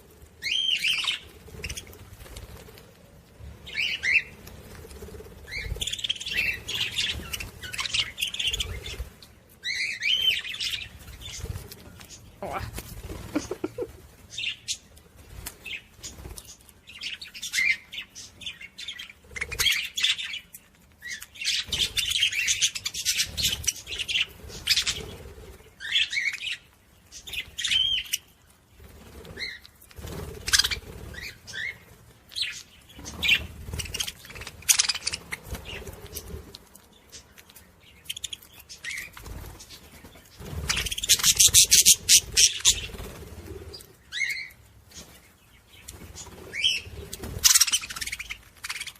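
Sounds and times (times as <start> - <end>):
wing flutters: 0.0 - 17.8, 21.5 - 26.5, 27.1 - 48.9
parrots chirping and chattering: 0.0 - 48.9.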